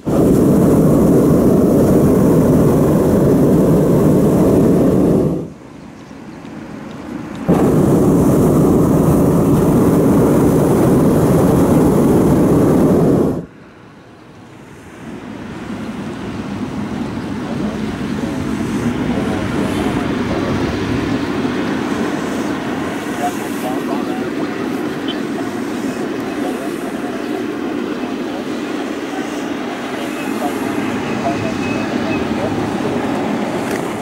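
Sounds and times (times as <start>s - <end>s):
propane burner roaring: 0.0s - 5.8s, 6.4s - 13.5s, 14.4s - 34.0s
quiet steady rushing noise: 0.0s - 34.0s.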